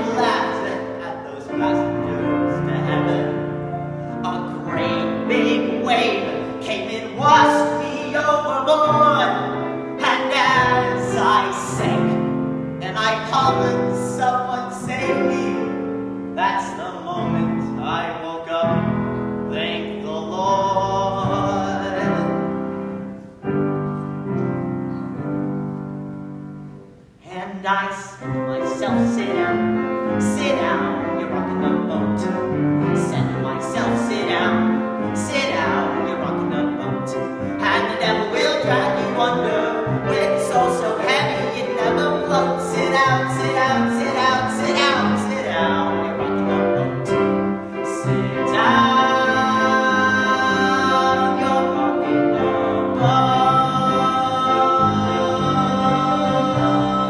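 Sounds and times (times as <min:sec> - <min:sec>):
man singing: 0:00.0 - 0:22.8, 0:27.2 - 0:57.0
piano accompaniment: 0:00.0 - 0:57.0.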